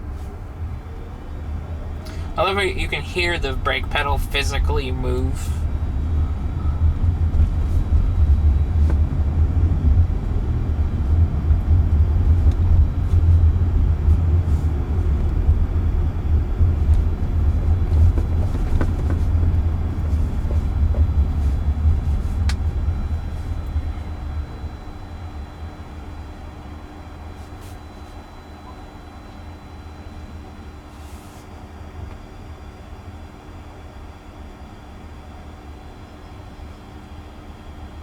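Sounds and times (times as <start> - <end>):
road and tyre rumble in car: 0.0 - 35.0.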